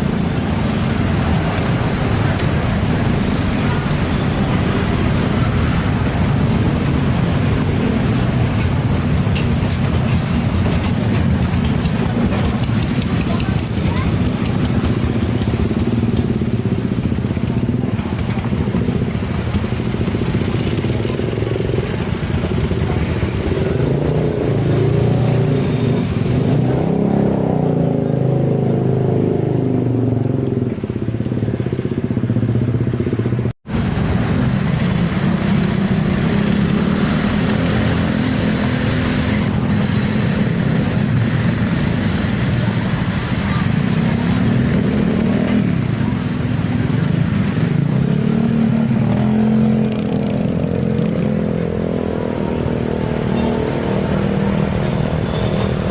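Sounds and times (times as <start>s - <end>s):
motorcycle engines running: 0.0s - 55.9s.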